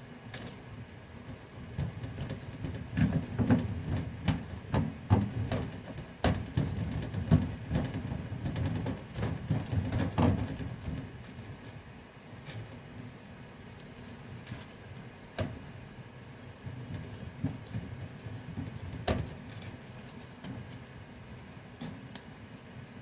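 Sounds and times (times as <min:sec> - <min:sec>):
hands kneading dough on board: 0:00.3 - 0:11.8, 0:13.5 - 0:21.0.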